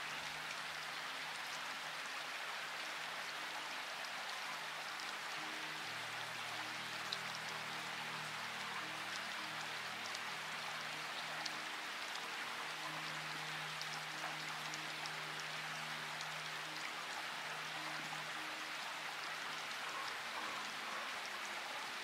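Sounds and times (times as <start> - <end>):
soft music with held low notes: 0.0 - 22.0
steady rain: 0.0 - 22.0.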